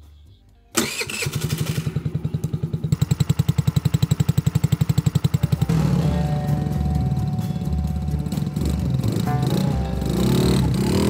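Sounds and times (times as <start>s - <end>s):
small petrol engine idling: 0.8s - 11.0s
louder steady engine sound: 1.0s - 11.0s.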